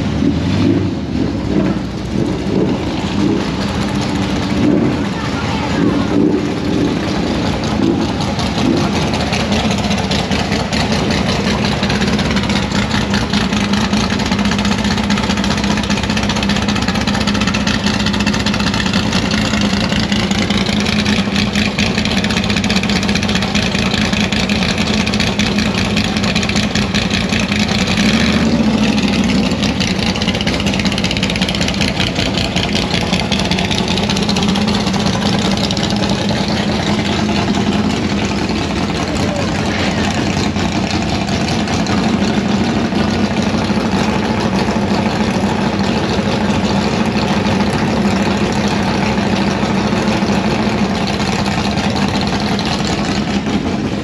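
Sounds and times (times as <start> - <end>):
car engines idling: 0.0 - 54.0.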